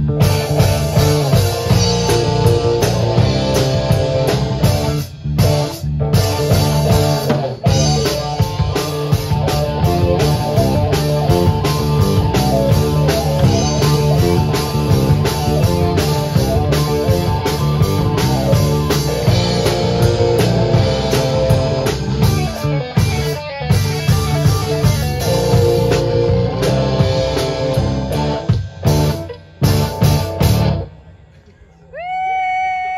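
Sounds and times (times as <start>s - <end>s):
drum kit beat: 0.0s - 30.9s
electric bass: 0.0s - 31.2s
electric guitar: 0.0s - 31.2s.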